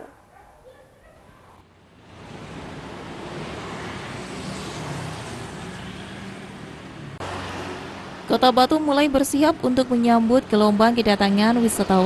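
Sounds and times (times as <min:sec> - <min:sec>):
vehicle passing by: 0:01.6 - 0:12.0.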